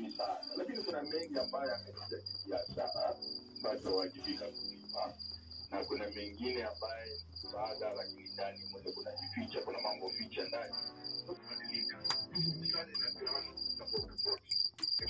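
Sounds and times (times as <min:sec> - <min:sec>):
cricket chirping: 0:00.0 - 0:15.0
voices talking: 0:00.0 - 0:15.0.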